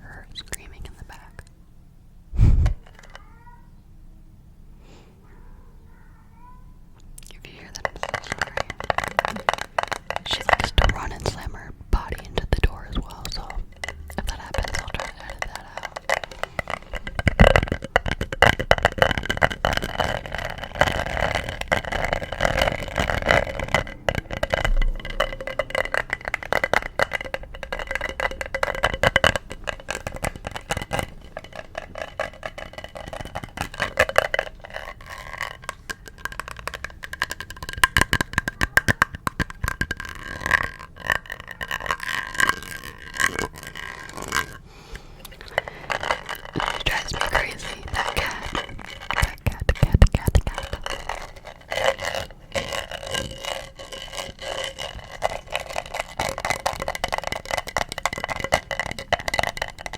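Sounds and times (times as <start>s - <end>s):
rapid tapping on an object: 7.3s - 59.9s.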